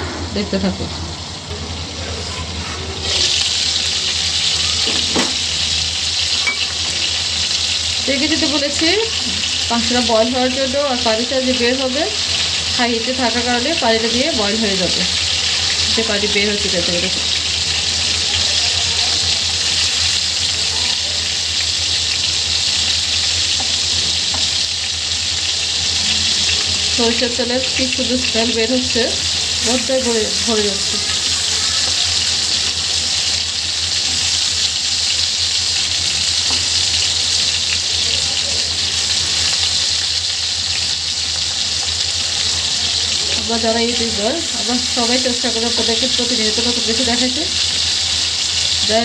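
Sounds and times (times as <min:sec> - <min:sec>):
chicken sizzling in hot oil: 0:00.0 - 0:49.0.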